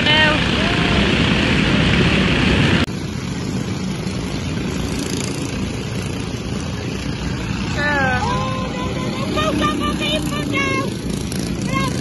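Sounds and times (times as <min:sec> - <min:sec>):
kart engines racing: 0:00.0 - 0:12.0.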